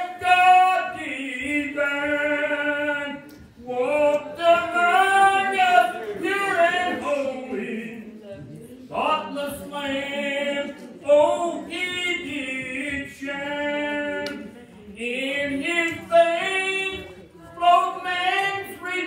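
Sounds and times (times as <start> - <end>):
congregation singing a hymn: 0.0 - 19.0.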